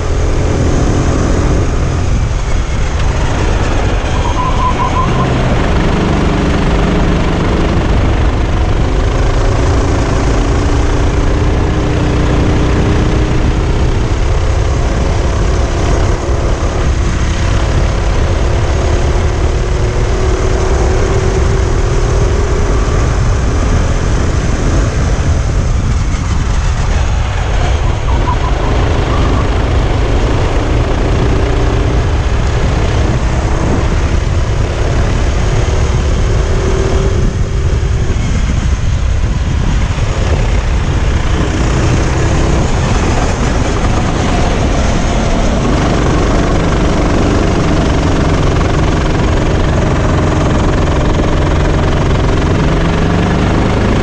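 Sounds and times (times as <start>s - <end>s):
kart engine at racing speed: 0.0s - 54.0s
wind rumble on microphone: 0.0s - 54.0s.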